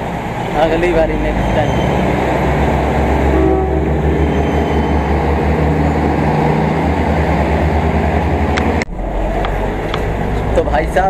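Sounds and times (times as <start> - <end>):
diesel train engine drone: 0.0 - 11.0
train cars rumbling on rails: 0.0 - 11.0.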